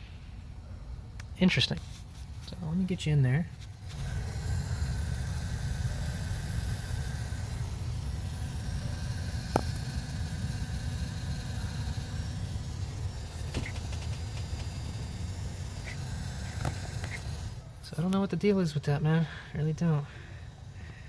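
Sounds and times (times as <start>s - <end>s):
faint high buzz: 0.0s - 21.0s
car engine idling: 3.6s - 21.0s.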